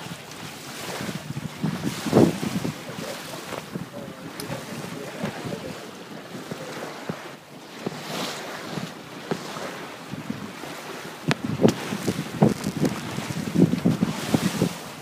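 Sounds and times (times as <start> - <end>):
water washing along hull: 0.0 - 15.0
wind buffeting microphone: 0.0 - 15.0.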